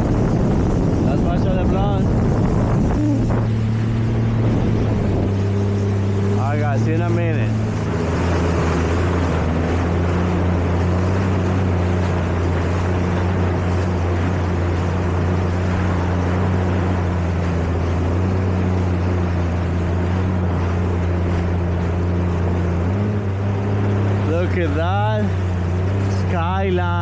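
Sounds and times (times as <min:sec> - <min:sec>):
jet ski engine drone: 0:00.0 - 0:27.0.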